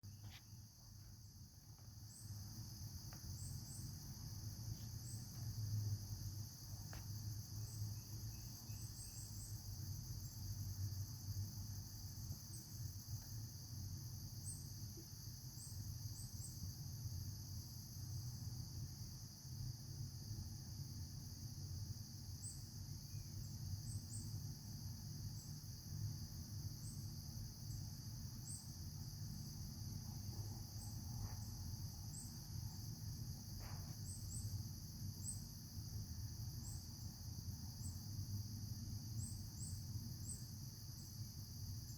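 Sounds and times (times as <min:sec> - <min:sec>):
high-pitched insect chorus: 0:00.1 - 0:41.9.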